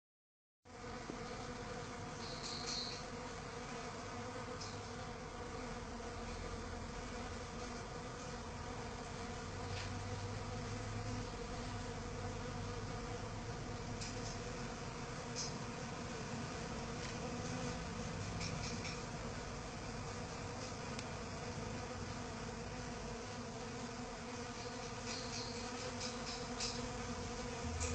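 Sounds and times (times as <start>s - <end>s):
bees buzzing in flight: 0.7s - 27.9s.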